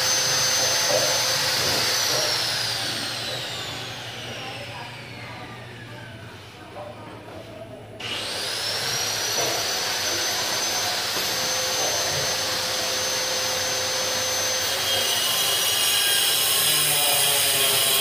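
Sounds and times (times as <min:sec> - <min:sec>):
machine motor whine: 0:00.0 - 0:06.2, 0:08.0 - 0:16.6.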